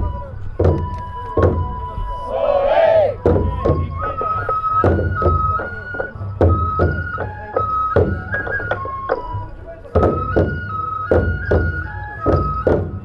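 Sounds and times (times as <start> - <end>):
flute melody: 0.0 - 13.0
drum strikes: 0.6 - 1.9, 2.8 - 13.0.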